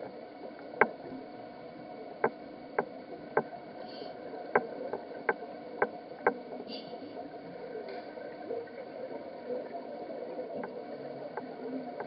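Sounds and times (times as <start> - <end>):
muffled underwater hiss: 0.0 - 12.0.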